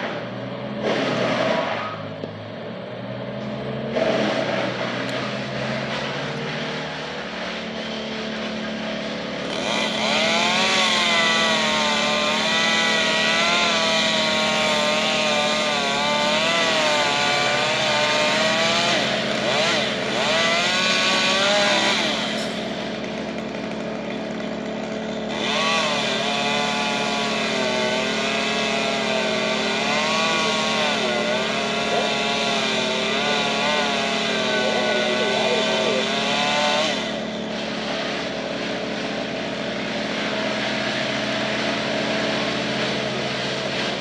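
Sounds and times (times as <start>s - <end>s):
chainsaw engine revving: 0.0s - 2.3s, 3.0s - 44.0s.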